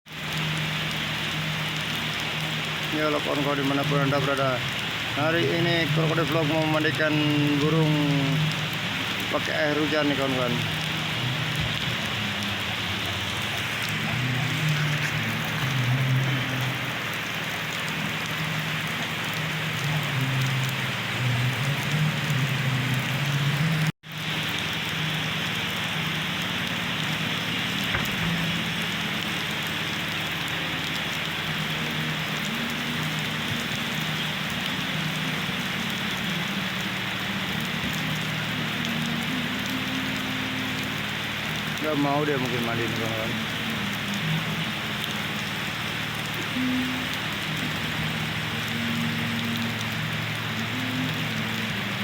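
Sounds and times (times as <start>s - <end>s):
steady rain falling: 0.1s - 52.0s.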